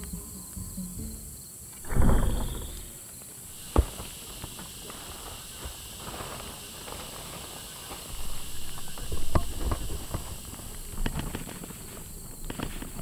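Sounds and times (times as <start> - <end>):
steady hiss: 0.0 - 13.0
deer hoofbeats thudding: 1.8 - 13.0
rustling in grass and brush: 1.8 - 13.0.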